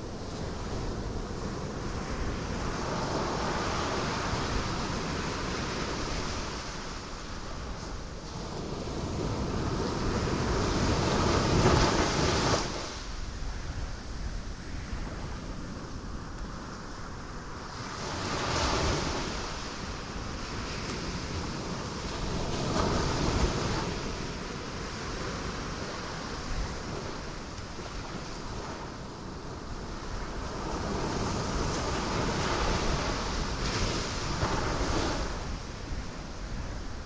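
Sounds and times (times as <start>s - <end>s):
low rumble of surf: 0.0s - 37.0s.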